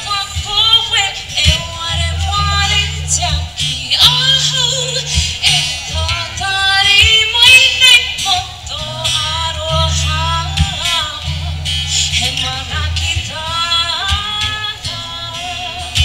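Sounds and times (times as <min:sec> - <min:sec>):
acoustic guitar: 0:00.0 - 0:16.0
woman singing into microphone: 0:00.0 - 0:16.0.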